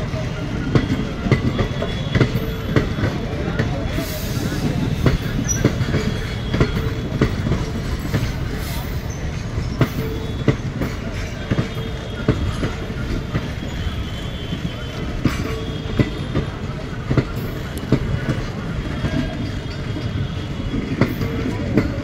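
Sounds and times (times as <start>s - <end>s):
train rumbling past: 0.0s - 22.0s
wheels clacking over rail joints: 0.0s - 22.0s.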